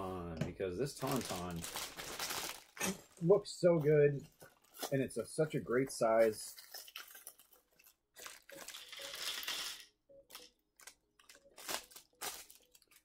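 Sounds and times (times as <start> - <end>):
plastic bag crinkling and tearing: 0.9 - 5.2, 6.2 - 13.0.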